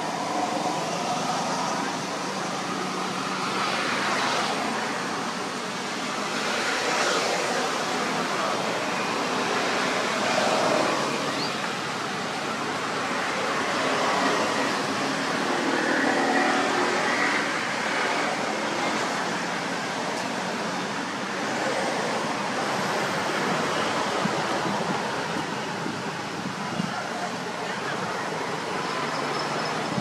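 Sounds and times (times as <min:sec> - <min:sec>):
rushing outdoor background noise: 0:00.0 - 0:30.0.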